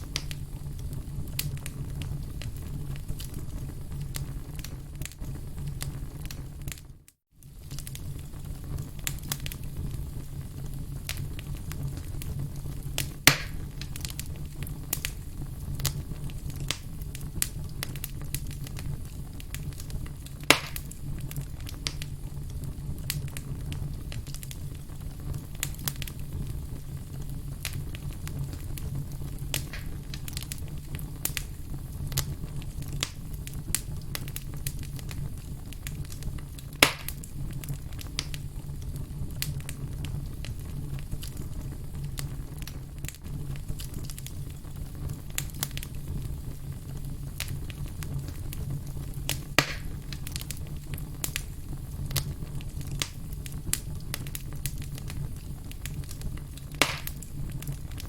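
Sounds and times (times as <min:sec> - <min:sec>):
loud pops of fire: 0:00.0 - 0:58.0
wood fire crackling: 0:00.0 - 0:58.0.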